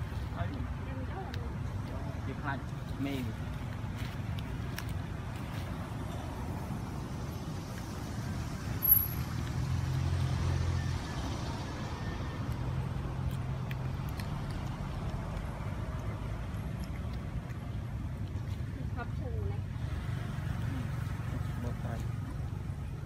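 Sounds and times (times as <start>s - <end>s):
engine rumble: 0.0s - 23.0s.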